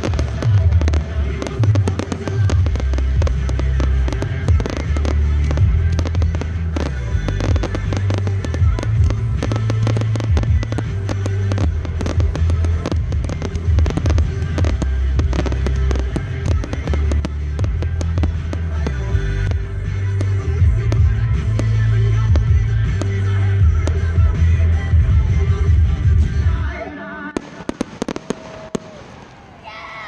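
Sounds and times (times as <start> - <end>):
firework shells bursting: 0.0 - 24.8
firework crackle: 0.0 - 26.6, 27.3 - 29.6.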